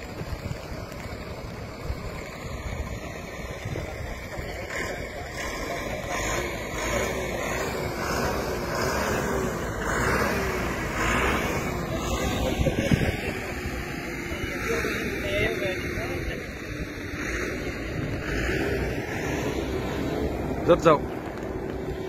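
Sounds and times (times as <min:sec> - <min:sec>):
truck driving past: 0:00.0 - 0:22.0.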